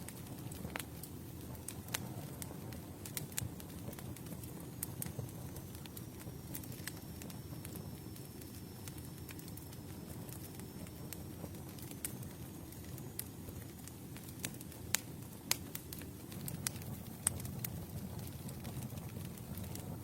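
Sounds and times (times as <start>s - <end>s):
campfire flames rumbling: 0.0s - 20.0s
wood crackling and popping: 0.0s - 20.0s.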